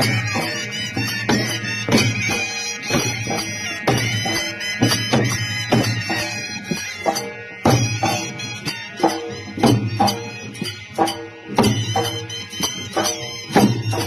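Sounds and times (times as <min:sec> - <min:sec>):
shrill reed wind instrument: 0:00.0 - 0:14.0.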